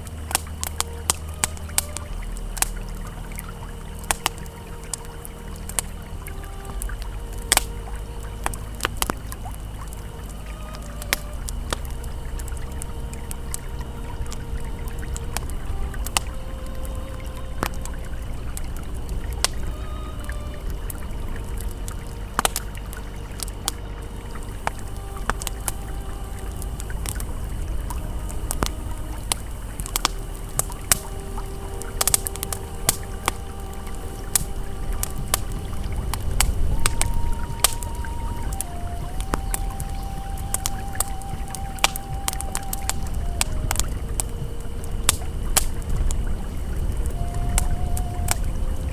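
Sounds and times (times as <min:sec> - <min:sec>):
campfire crackling and popping: 0:00.0 - 0:48.9
faint held ambient tones: 0:00.0 - 0:48.9
river flowing: 0:00.0 - 0:48.9.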